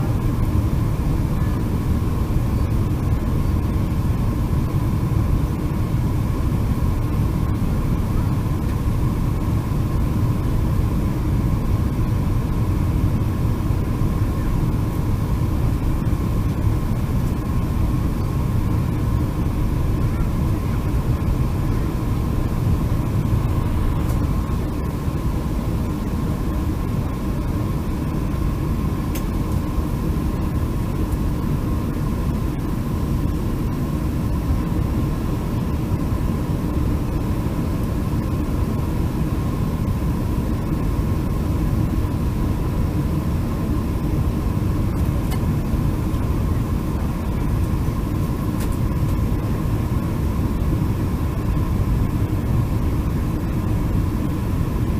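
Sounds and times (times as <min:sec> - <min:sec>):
faint constant whine: 0:00.0 - 0:54.9
jet airliner rumble and hiss: 0:00.0 - 0:54.9.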